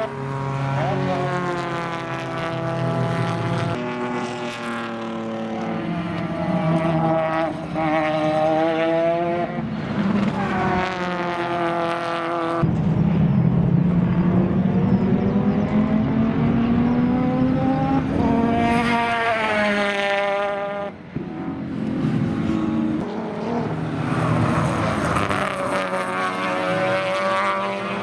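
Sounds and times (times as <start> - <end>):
race car engines passing: 0.0 - 28.0.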